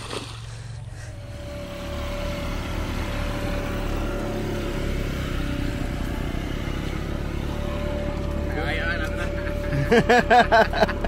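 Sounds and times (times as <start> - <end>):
steady whine: 0.4 - 11.0
small motorbike engine running: 1.1 - 11.0.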